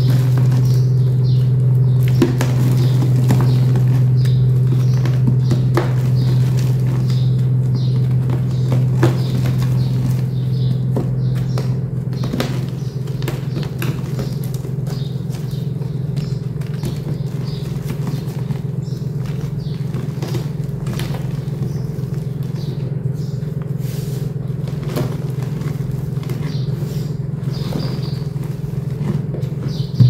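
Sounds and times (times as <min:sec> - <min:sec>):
hands crumbling chalk: 0:00.0 - 0:29.9
steady low hum: 0:00.0 - 0:30.0.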